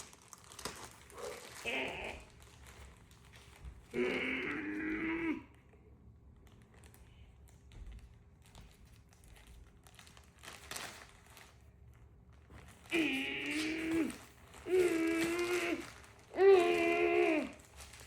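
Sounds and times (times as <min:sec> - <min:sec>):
plastic packaging crinkling: 0:00.0 - 0:04.4, 0:06.0 - 0:18.0.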